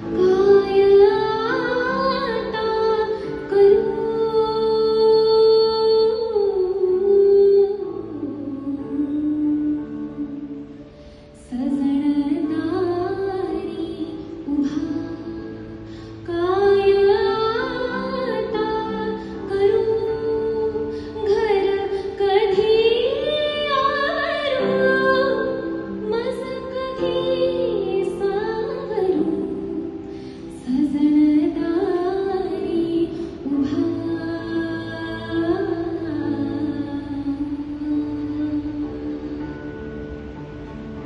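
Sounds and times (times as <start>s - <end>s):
woman singing into microphone: 0.0s - 39.9s.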